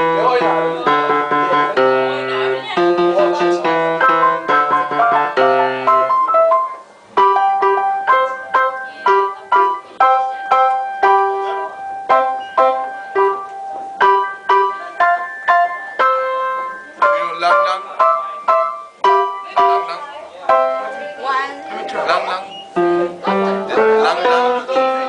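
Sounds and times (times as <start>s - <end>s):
piano melody: 0.0s - 25.0s.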